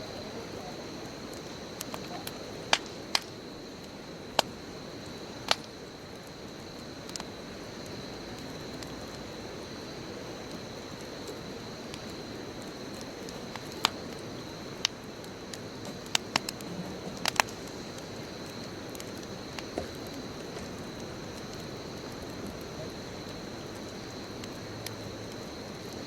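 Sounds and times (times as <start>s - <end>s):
wood popping and crackling: 0.0s - 9.7s, 10.3s - 26.0s
bonfire flames hissing: 0.0s - 26.0s.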